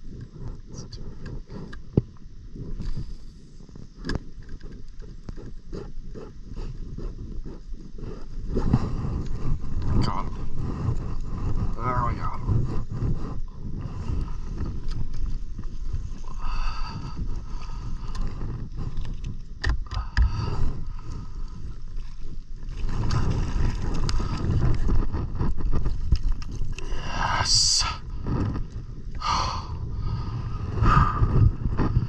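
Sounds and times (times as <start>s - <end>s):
water lapping against hull: 0.0s - 32.0s
wind buffeting microphone: 0.0s - 32.0s.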